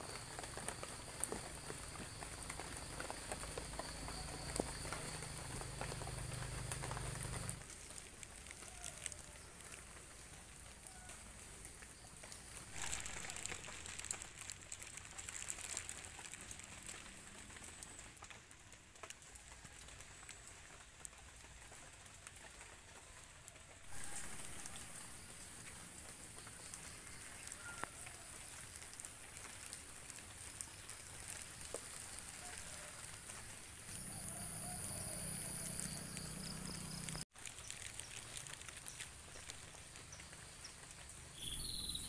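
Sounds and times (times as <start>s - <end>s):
rain dripping on leaves: 0.0s - 42.0s.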